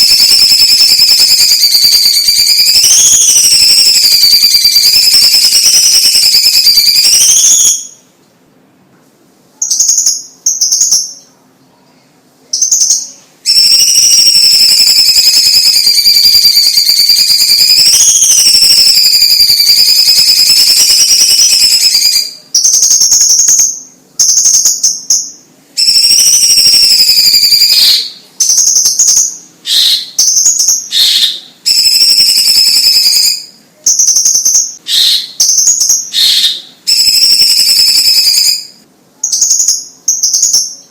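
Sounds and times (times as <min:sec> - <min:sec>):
bird whistling song: 0:00.0 - 0:08.1, 0:09.6 - 0:11.3, 0:12.6 - 0:40.9.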